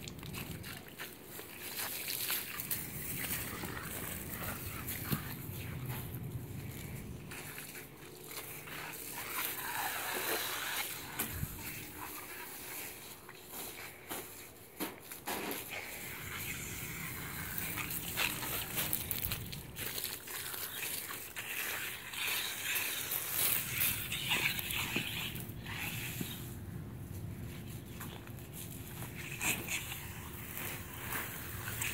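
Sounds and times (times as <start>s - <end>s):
garden hose spraying water: 0.0s - 14.2s, 15.6s - 26.5s, 28.8s - 31.9s
dog biting hose: 0.1s - 13.0s, 15.3s - 26.6s, 28.1s - 31.9s.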